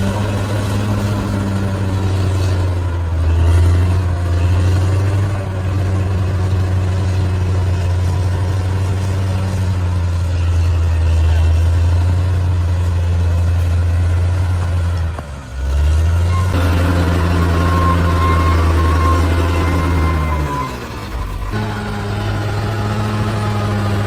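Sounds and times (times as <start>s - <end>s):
bulldozer diesel engine drone: 0.0s - 24.0s.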